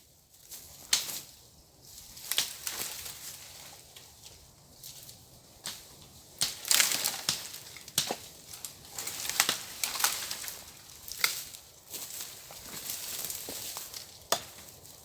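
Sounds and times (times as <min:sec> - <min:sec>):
dry brush crunching and snapping: 0:00.4 - 0:15.0.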